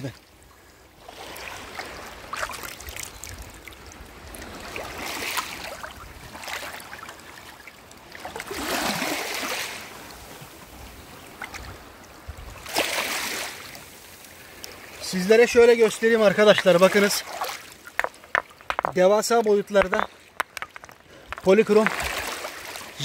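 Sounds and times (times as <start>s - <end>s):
small waves washing over pebbles: 1.0s - 23.0s.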